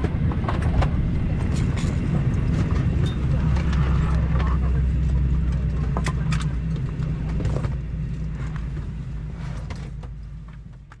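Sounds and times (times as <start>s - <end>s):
aircraft cabin hum: 0.0s - 11.0s.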